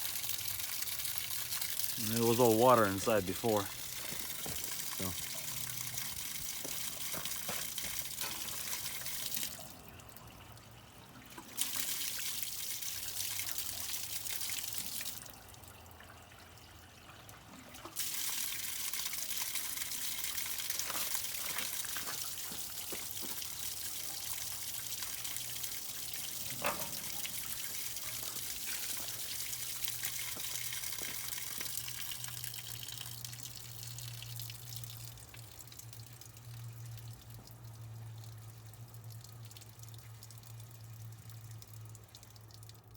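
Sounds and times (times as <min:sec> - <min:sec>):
water splashing through radiator: 0:00.0 - 0:16.4, 0:17.0 - 0:42.9.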